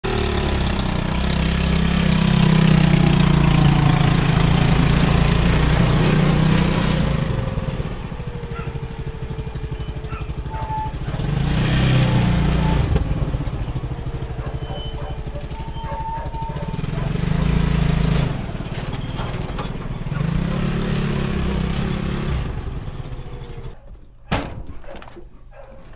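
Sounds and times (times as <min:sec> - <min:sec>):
small engine running: 0:00.0 - 0:23.8.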